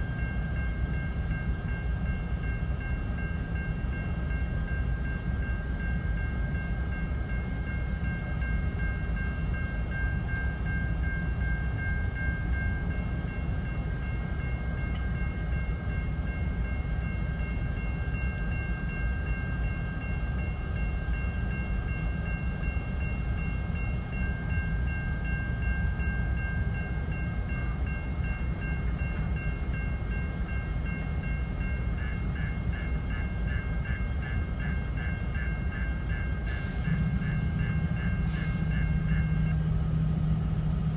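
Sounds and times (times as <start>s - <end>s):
crossing warning bell ringing: 0.0s - 40.9s
freight train rumbling: 0.0s - 40.9s.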